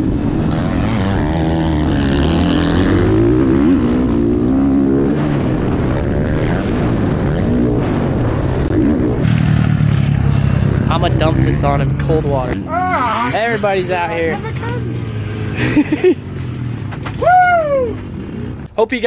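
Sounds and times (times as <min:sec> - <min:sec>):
dirt bike engines revving: 0:00.0 - 0:06.3, 0:09.0 - 0:18.8.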